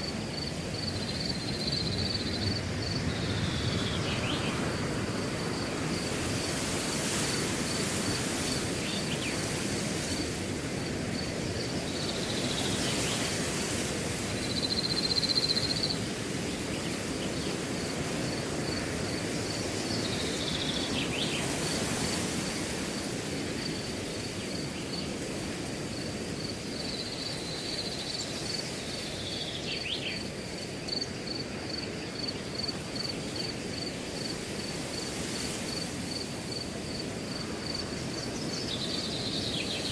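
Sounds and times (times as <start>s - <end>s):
cricket chirping: 0.0s - 39.9s
wind through grass: 0.0s - 39.9s.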